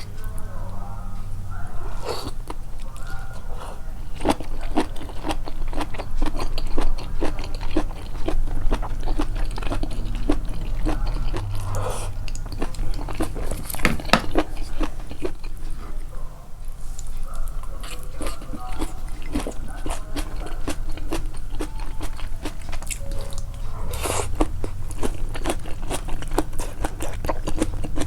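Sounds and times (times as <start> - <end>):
close chewing of food: 0.0 - 28.0.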